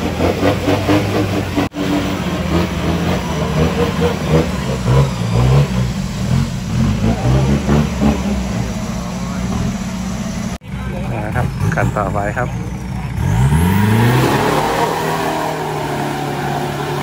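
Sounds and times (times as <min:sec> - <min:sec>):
engine revving in mud: 0:00.0 - 0:17.0.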